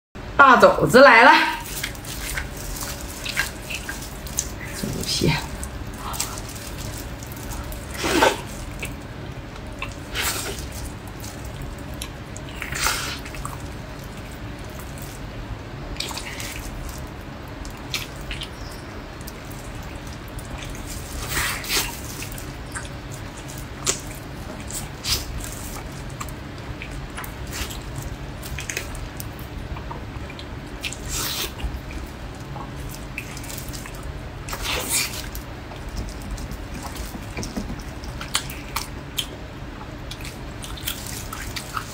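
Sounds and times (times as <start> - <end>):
low steady hum: 0.2 - 41.9
wet chewing and smacking: 1.6 - 41.9.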